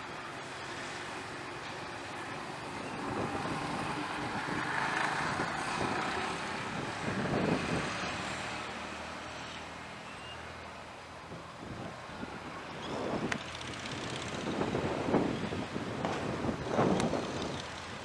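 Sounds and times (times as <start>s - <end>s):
jet airliner engine: 0.0s - 18.0s.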